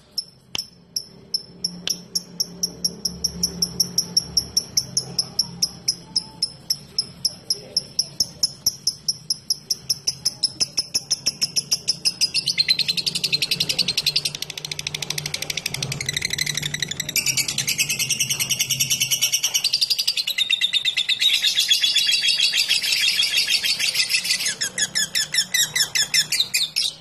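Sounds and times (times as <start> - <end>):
lovebird chirping and trilling: 0.0 - 27.0.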